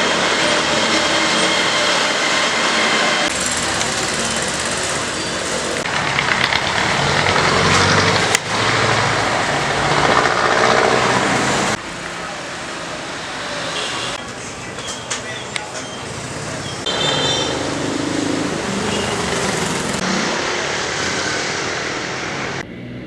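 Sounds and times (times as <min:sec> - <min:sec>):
road noise: 0:00.0 - 0:23.0
vehicle engine: 0:00.0 - 0:23.0.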